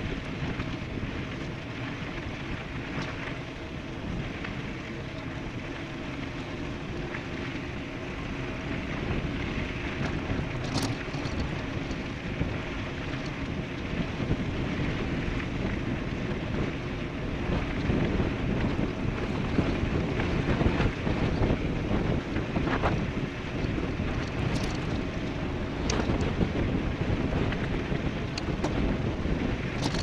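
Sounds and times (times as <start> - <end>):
bike tyre rumble: 0.0 - 30.0
wind buffeting microphone: 0.0 - 30.0.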